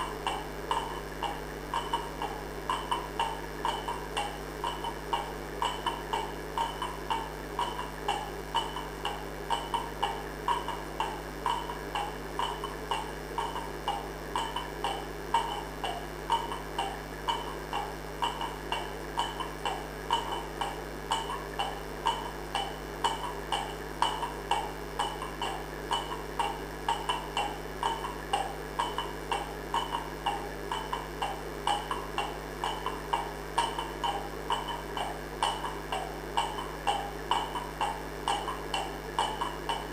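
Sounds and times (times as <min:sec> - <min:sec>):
low hum: 0:00.0 - 0:39.9
rhythmic percussive knocks: 0:00.0 - 0:39.9.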